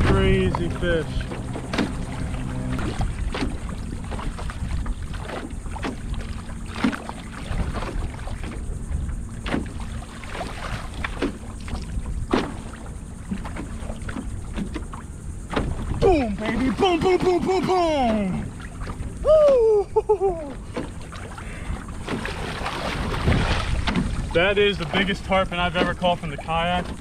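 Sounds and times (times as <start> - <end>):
water sloshing around kayak: 0.0 - 27.0
wind buffeting microphone: 0.0 - 27.0.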